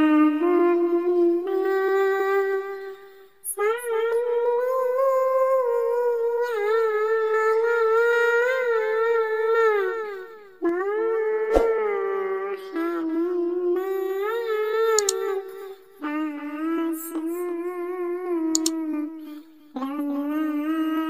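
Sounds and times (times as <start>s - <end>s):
high voice singing devotional song: 0.0s - 21.0s.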